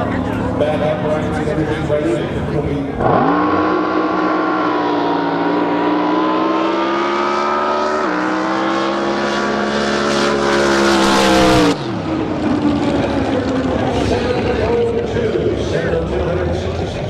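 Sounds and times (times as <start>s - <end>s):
drag boat engine at full throttle: 0.0s - 17.0s.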